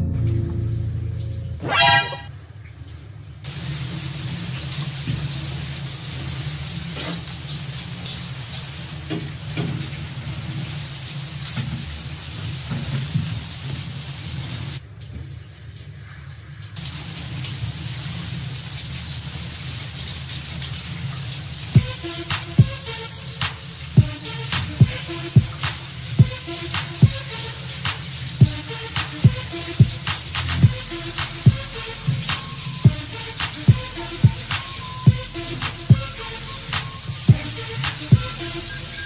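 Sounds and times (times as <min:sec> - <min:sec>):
shower water spraying: 0:00.9 - 0:02.4, 0:03.4 - 0:14.8, 0:16.8 - 0:39.0.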